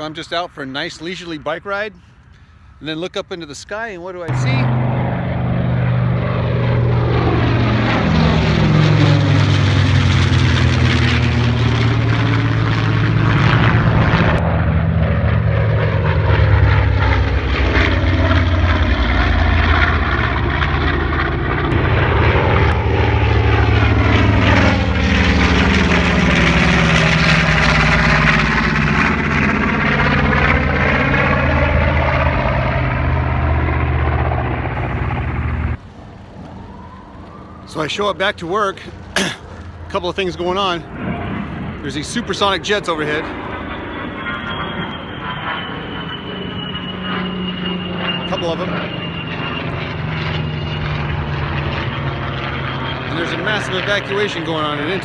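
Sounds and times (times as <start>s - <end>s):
aircraft engine drone overhead: 0.0s - 55.0s.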